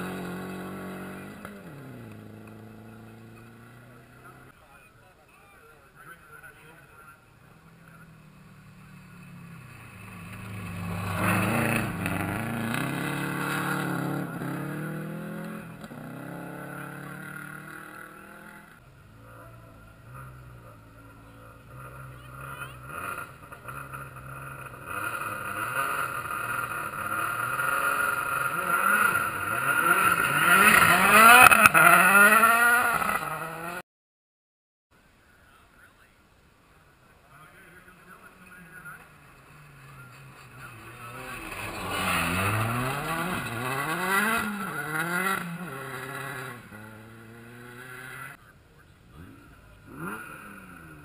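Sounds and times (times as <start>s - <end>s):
rally car engines at full throttle: 0.0s - 4.6s, 6.0s - 33.8s, 37.3s - 51.0s.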